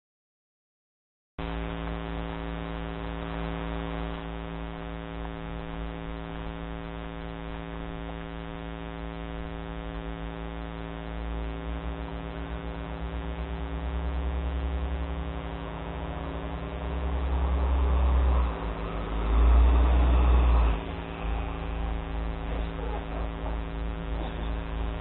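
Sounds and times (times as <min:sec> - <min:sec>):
steady low hum: 0:01.4 - 0:25.0.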